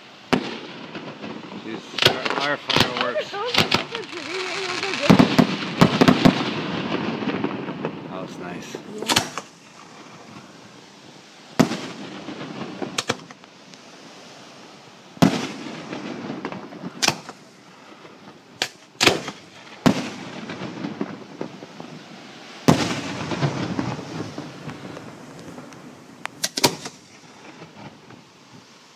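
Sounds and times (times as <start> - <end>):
fireworks crackling: 0.0 - 28.9
fireworks bangs with echo: 0.3 - 28.3.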